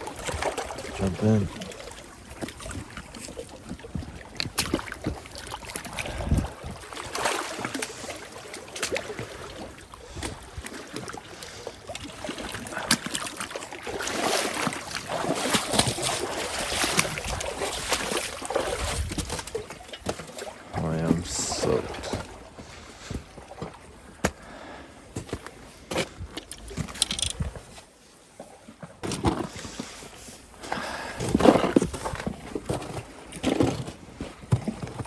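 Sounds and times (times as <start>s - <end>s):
water splashing and sloshing: 0.0s - 35.0s.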